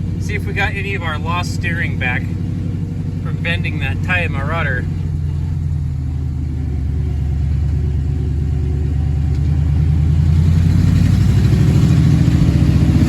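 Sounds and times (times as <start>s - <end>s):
car engine running while driven: 0.0s - 13.0s.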